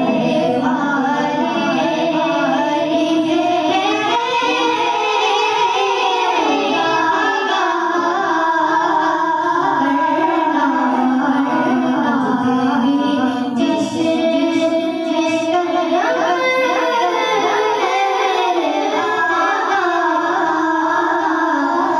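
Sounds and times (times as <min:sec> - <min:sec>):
boys singing into microphones: 0:00.0 - 0:21.9.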